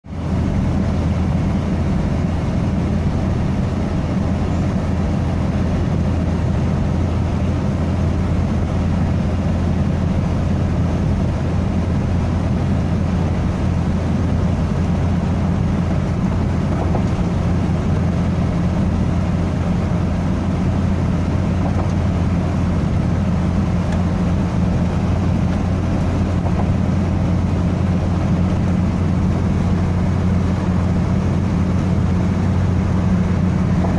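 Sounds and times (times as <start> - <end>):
car engine and road drone: 0.0 - 33.9.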